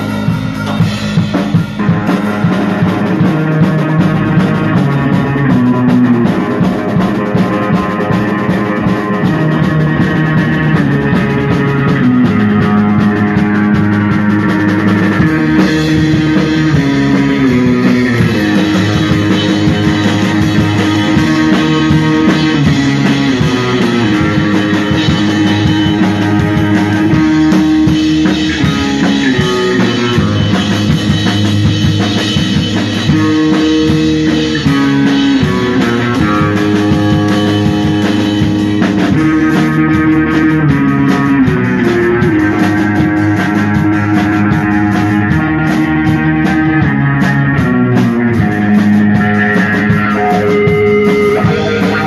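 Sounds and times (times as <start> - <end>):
drums: 0.0 - 52.0
electric bass: 0.0 - 52.0
electric guitar chords: 0.0 - 52.0.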